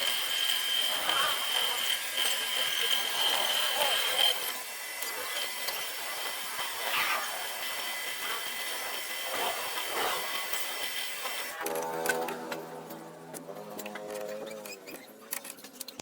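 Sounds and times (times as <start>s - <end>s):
tool scraping and rasping: 0.0s - 16.0s.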